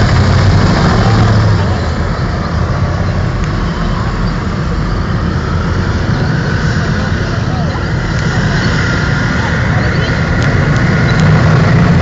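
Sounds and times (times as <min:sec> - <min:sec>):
tracked vehicles rumbling past: 0:00.0 - 0:12.0.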